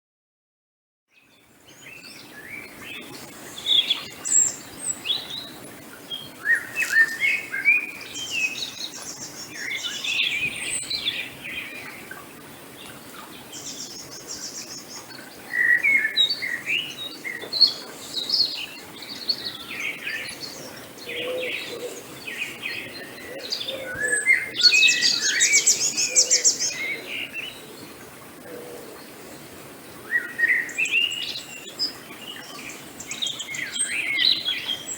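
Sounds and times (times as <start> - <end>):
faint outdoor hiss: 1.1 - 34.9
songbirds chirping and trilling: 1.1 - 34.9.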